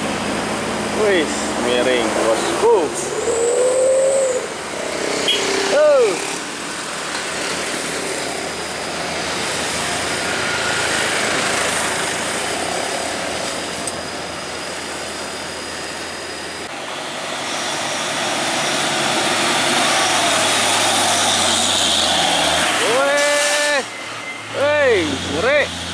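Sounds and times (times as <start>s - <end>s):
diesel truck engines under load: 0.0s - 25.9s
tyre noise of passing vehicles: 0.0s - 25.9s.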